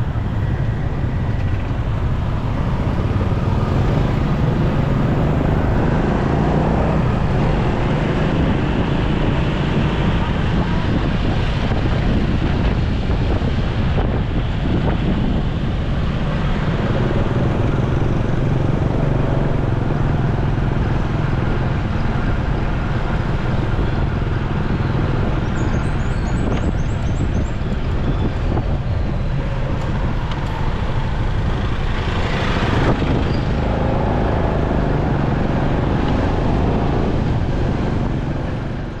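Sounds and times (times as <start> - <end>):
motorcycle engine and road noise: 0.0 - 39.0.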